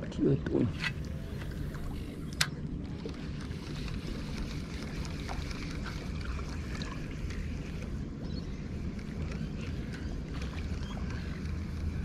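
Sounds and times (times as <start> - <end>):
water at shoreline: 0.0 - 12.0.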